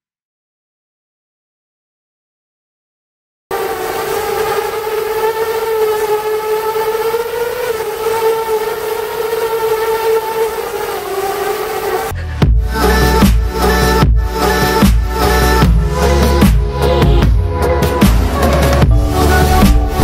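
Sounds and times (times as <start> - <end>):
quadcopter motors buzzing whine: 3.5 - 20.0.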